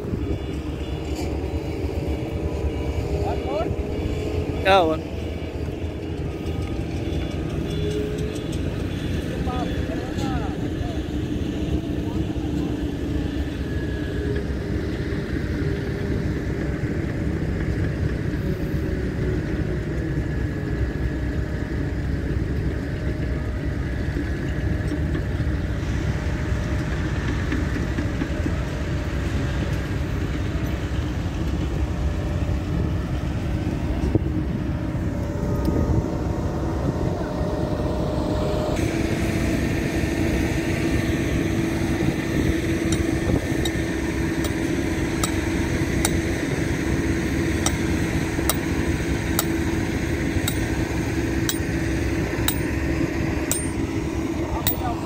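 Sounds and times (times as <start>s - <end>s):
distant diesel engine running: 0.0s - 55.0s.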